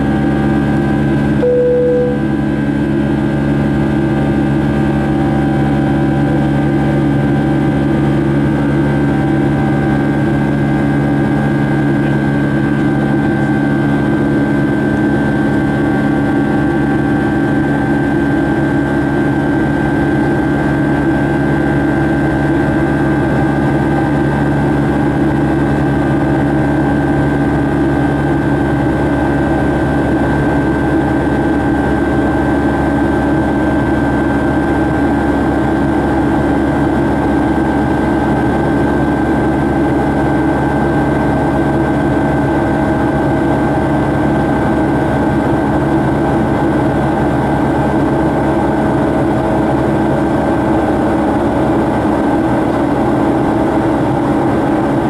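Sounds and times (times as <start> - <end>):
high engine whine: 0.0 - 55.0
jet engine drone in cabin: 0.0 - 55.0.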